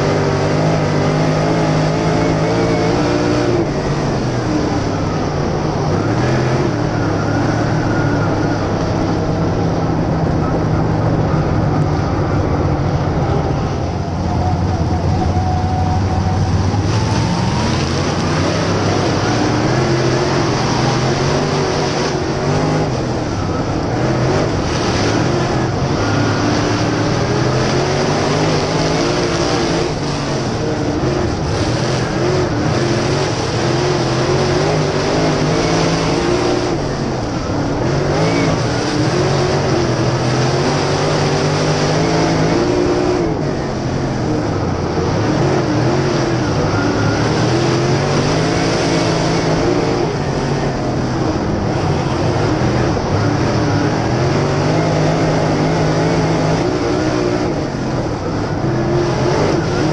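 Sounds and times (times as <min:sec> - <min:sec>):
other race cars passing: 0:00.0 - 0:59.9
racing car engine revving: 0:00.0 - 0:59.9.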